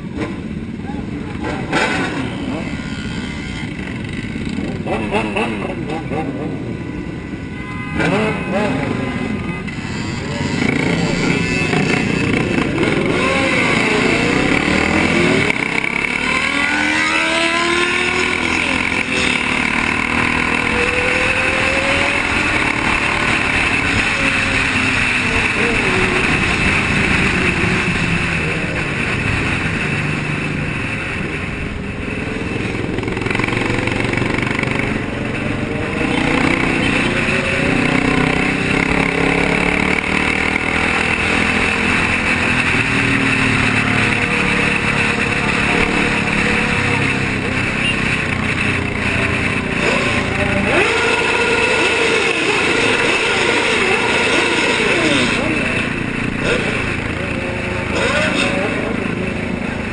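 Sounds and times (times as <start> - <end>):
motorcycle engines revving: 0.0 - 59.9
road noise: 0.0 - 59.9.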